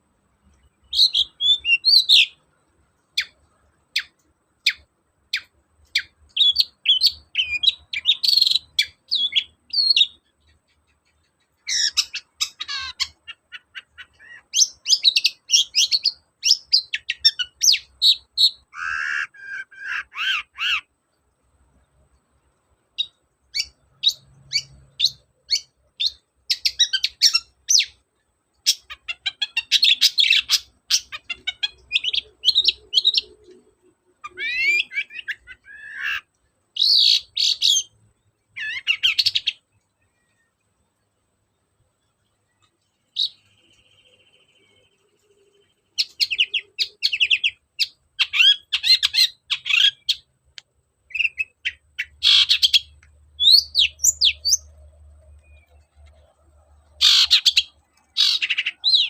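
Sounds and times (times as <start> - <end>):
bird song with chips and trills: 0.0 - 59.0.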